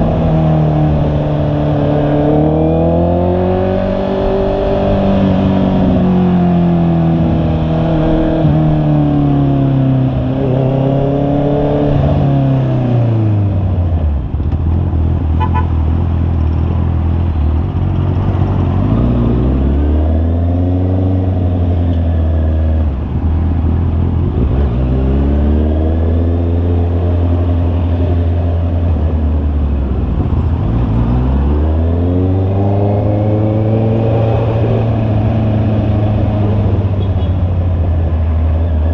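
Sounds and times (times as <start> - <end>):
motorcycle engine revving: 0.0 - 13.9, 14.6 - 38.9.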